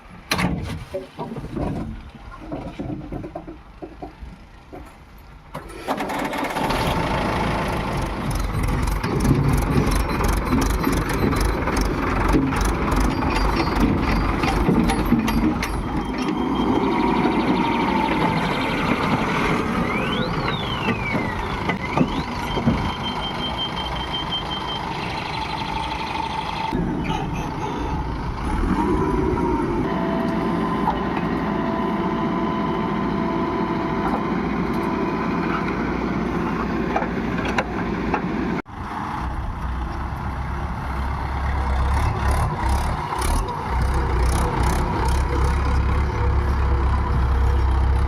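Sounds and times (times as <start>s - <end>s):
diesel engine working under load: 0.0s - 48.0s.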